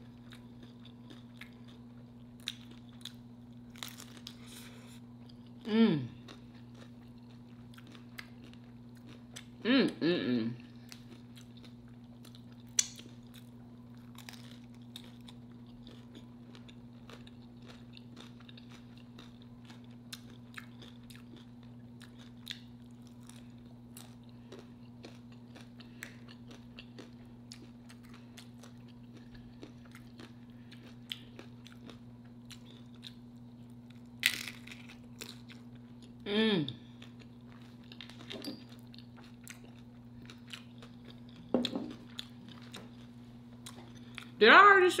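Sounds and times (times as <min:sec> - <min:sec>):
chewing crunchy chips: 0:00.0 - 0:44.4
steady low hum: 0:00.0 - 0:45.0.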